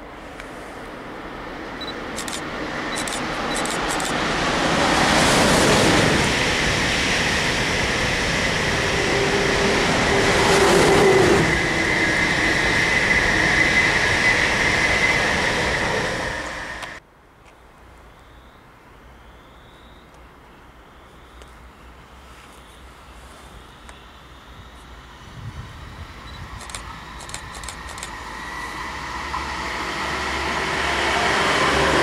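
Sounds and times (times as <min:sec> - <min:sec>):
electric train passing: 0:00.0 - 0:17.0, 0:21.0 - 0:32.0.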